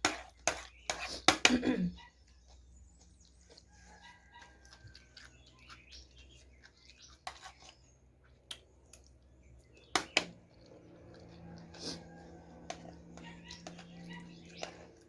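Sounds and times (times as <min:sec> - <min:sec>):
small birds chirping: 0:00.2 - 0:01.3, 0:01.9 - 0:15.0.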